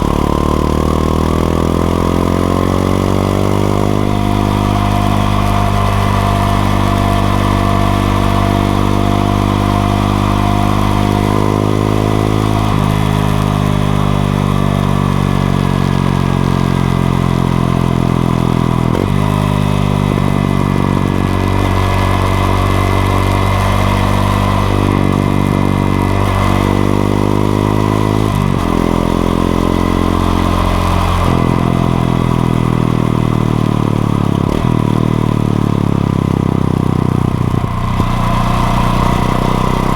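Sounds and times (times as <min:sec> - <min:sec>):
motorcycle engine changing gears: 0:00.0 - 0:39.9.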